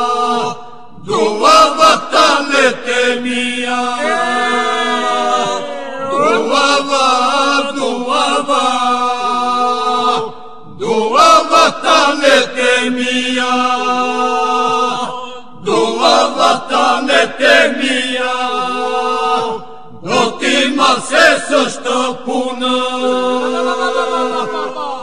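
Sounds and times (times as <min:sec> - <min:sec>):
polyphonic group singing: 0:00.0 - 0:25.0.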